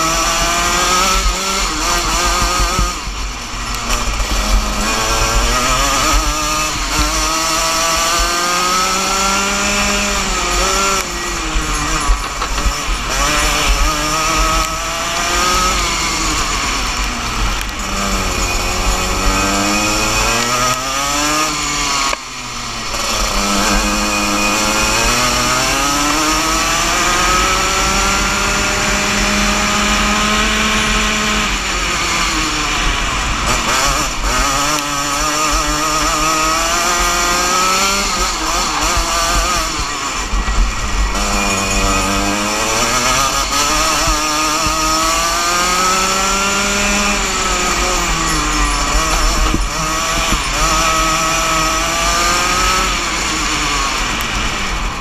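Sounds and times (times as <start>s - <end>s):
two-stroke kart engine racing: 0.0s - 55.0s.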